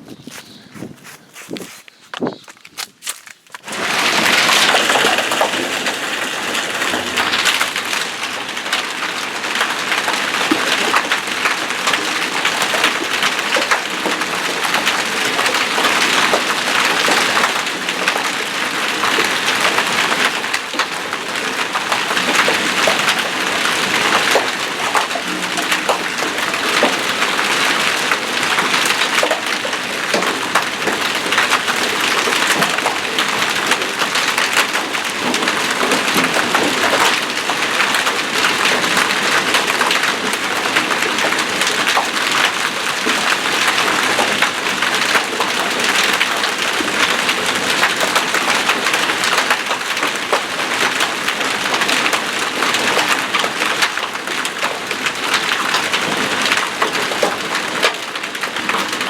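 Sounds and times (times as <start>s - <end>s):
hail and rain clattering: 3.2s - 59.0s.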